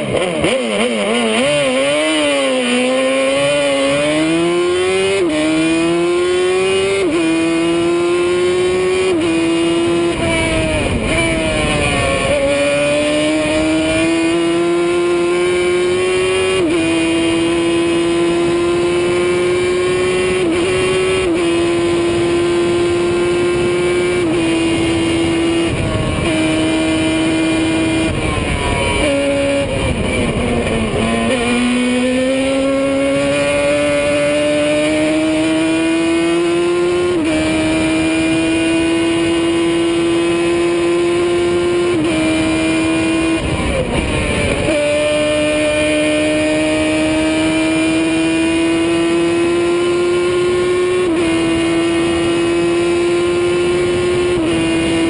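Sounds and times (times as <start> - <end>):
racing car engine at high revs: 0.0 - 55.0.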